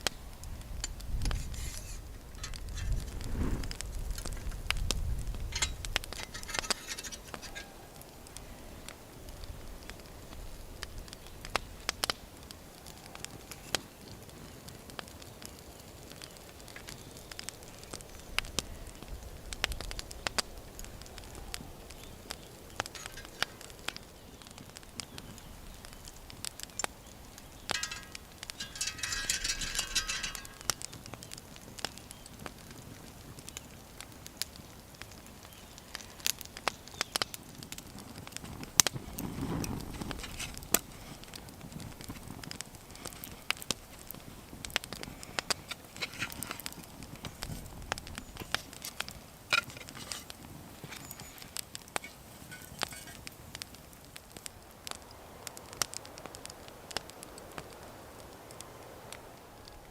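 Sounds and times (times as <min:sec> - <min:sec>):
campfire crackling: 0:00.0 - 0:59.9
fire hissing: 0:00.0 - 0:59.9.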